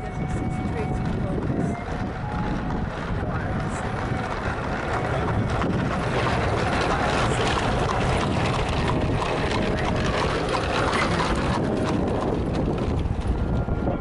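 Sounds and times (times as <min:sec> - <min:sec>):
vehicle road noise: 0:00.0 - 0:14.0
wind buffeting microphone: 0:00.0 - 0:14.0.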